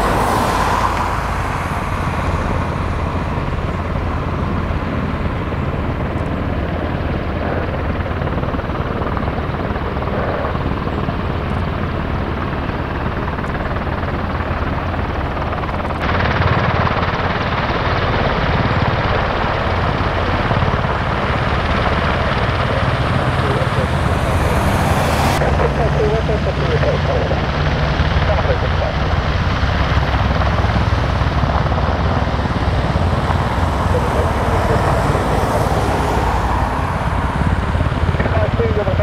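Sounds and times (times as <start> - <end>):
helicopter rotor and turbine: 0.0 - 39.0.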